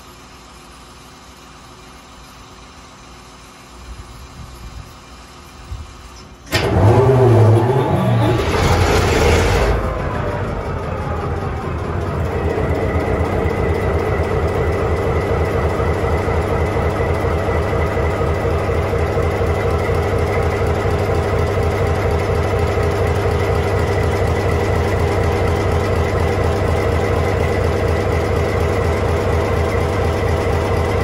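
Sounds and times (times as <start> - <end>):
diesel engine running: 5.5 - 31.0.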